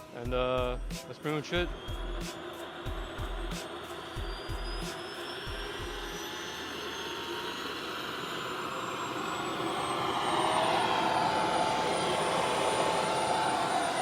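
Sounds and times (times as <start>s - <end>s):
jet turbine spooling up: 0.0s - 14.0s.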